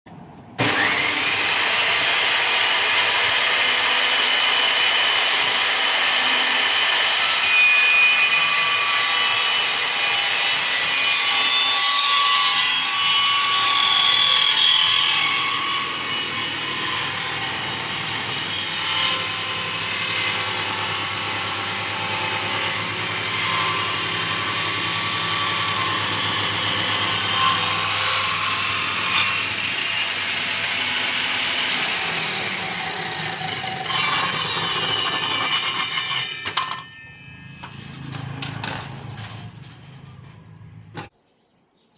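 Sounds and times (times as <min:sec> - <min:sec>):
saw rasping through wood: 0:00.6 - 0:36.5.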